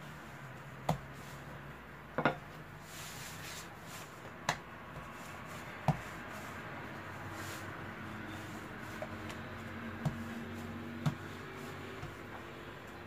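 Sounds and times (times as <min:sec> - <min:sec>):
rolling pin rolling dough: 0:00.0 - 0:13.0.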